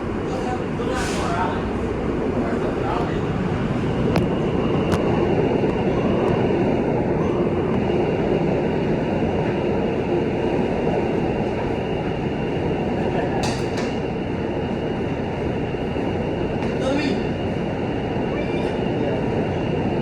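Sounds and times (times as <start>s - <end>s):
subway wheels rumbling on rail: 0.0s - 20.0s.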